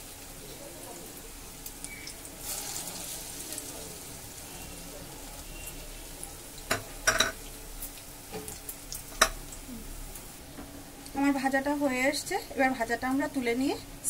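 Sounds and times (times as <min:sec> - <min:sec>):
fritters sizzling in hot oil: 0:00.0 - 0:14.0.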